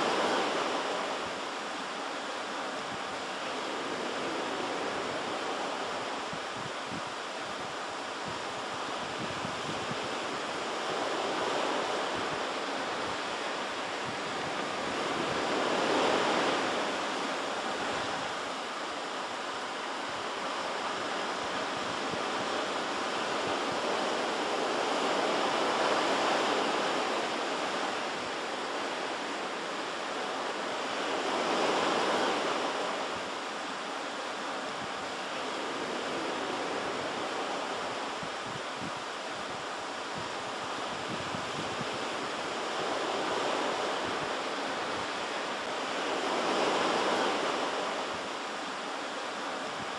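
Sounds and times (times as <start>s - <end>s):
ocean waves: 0.0s - 49.9s.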